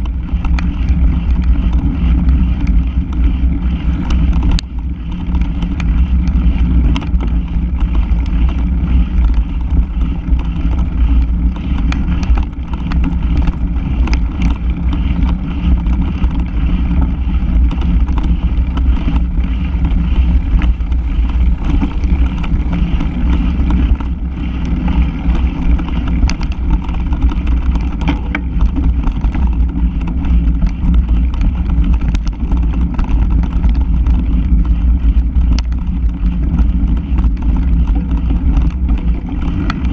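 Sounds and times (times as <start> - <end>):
bike clicks and rattles: 0.0 - 39.9
bike tyre rumble: 0.0 - 39.9
wind buffeting: 0.0 - 39.9.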